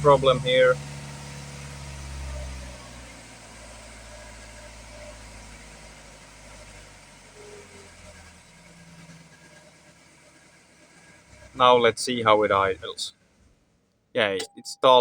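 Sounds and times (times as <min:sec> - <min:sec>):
diesel van engine idling roughly: 0:00.0 - 0:13.8.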